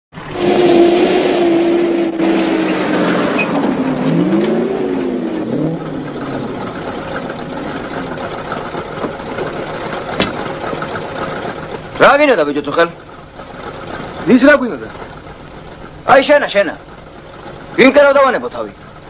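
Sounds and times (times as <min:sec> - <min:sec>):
truck engine running: 0:00.2 - 0:19.0
engine idle ticking: 0:03.6 - 0:19.0.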